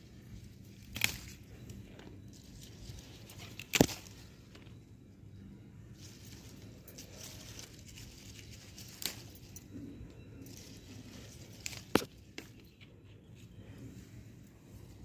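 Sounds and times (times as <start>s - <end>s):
plant rustling: 0.0s - 4.7s, 5.9s - 9.7s, 10.4s - 15.0s.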